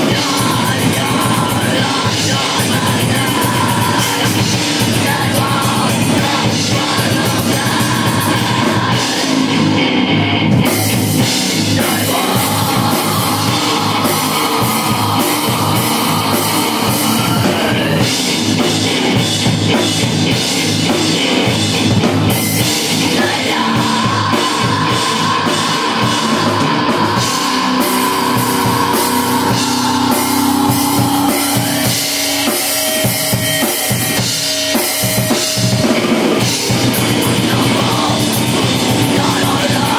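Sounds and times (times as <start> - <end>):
drum kit beat: 0.0 - 39.9
heavy rock music: 0.0 - 39.9.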